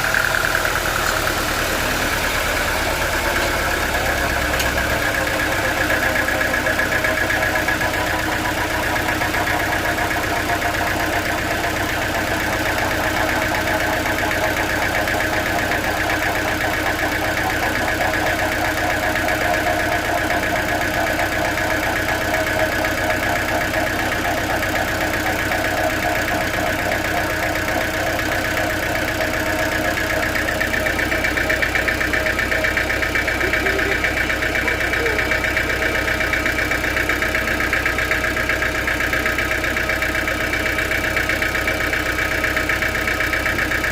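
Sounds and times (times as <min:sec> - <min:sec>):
sawmill machinery drone: 0:00.0 - 0:43.9.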